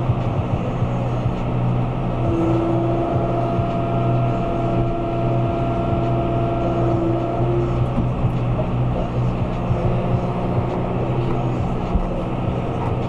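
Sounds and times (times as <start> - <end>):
steady machine whine: 0.0 - 13.0
tractor diesel engine running: 0.0 - 13.0.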